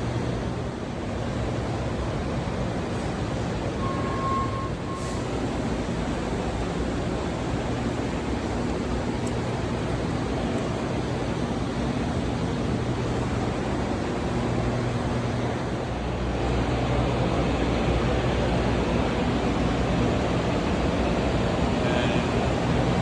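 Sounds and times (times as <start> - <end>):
factory machinery drone: 0.0 - 23.0
ventilation low hum: 0.0 - 23.0.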